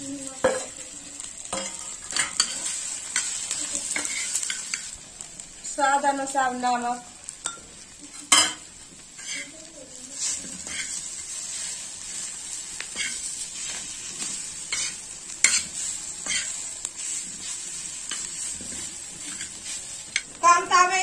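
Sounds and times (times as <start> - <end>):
oil sizzling: 0.0 - 21.0
metal spatula scraping on griddle: 0.4 - 5.0, 7.2 - 20.4.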